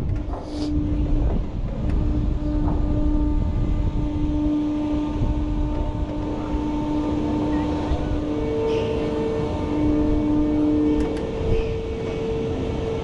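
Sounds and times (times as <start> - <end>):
ride motor humming: 0.0 - 13.0
wind rumbling on microphone: 0.0 - 13.0.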